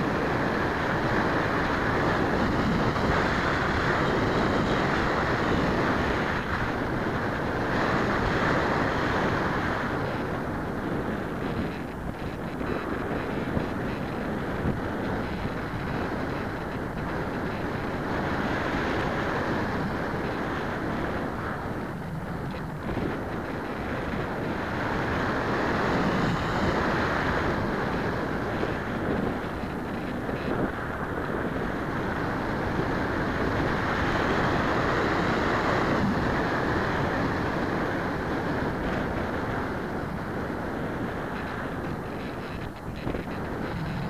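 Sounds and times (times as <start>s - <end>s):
wind rushing on microphone: 0.0s - 44.0s.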